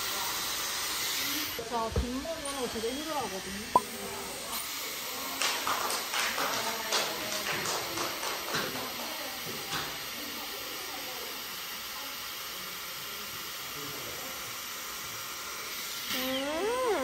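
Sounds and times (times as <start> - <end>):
hair styler air hissing: 0.0 - 5.6, 7.1 - 17.0.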